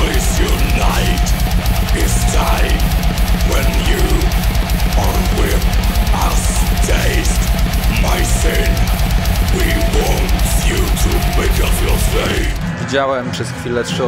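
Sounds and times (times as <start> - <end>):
rapid kick drum beats: 0.0 - 12.8
distorted guitars and bass: 0.0 - 13.0.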